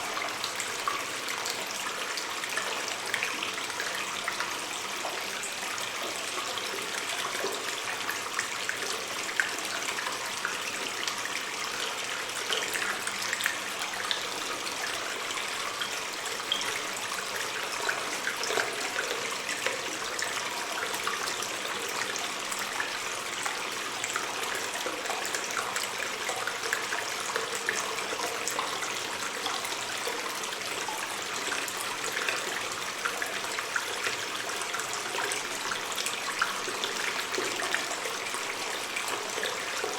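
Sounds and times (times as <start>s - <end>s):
running water stream: 0.0s - 39.9s
water trickles and drips: 0.0s - 39.9s.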